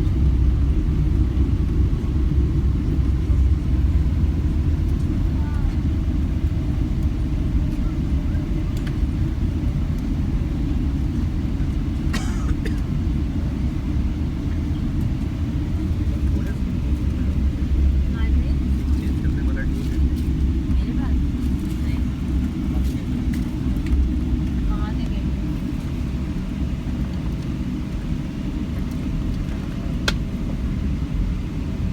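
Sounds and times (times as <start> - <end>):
airliner cabin rumble: 0.0 - 31.9.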